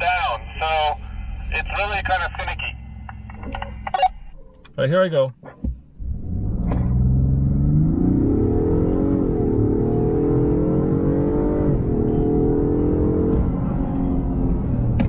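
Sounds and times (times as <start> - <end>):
truck engine accelerating: 0.0 - 4.7, 5.9 - 15.0.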